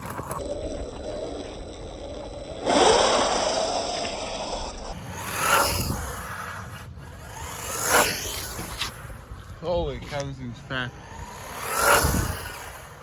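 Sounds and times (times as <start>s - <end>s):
toy car motor whining: 0.0s - 13.0s
tyres scrabbling: 0.0s - 13.0s.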